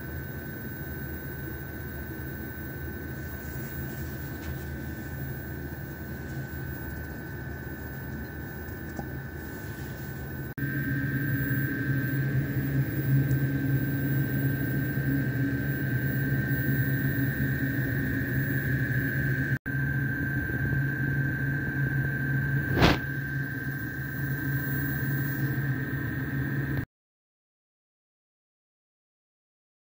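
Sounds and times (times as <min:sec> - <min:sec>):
machine motor humming and whining: 0:00.0 - 0:26.8.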